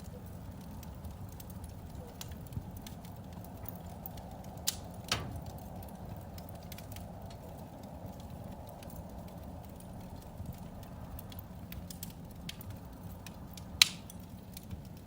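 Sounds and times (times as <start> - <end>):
fire crackling: 0.0 - 15.0
fire pops: 0.0 - 15.0.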